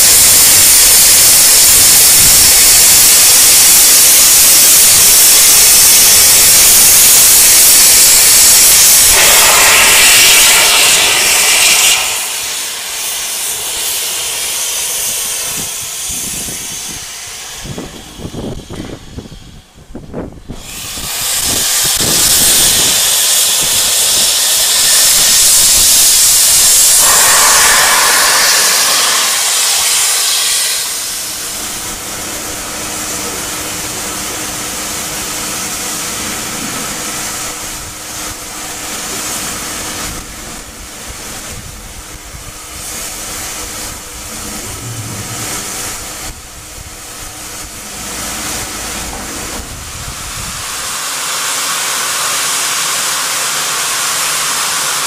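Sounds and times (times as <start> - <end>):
steam locomotive hissing steam: 0.0 - 55.0.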